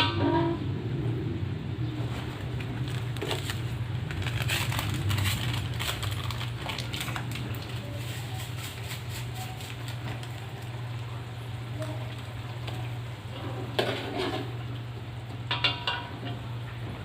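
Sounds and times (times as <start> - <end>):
food frying in a pan: 2.4 - 17.0
utensil working a pan: 2.6 - 17.0.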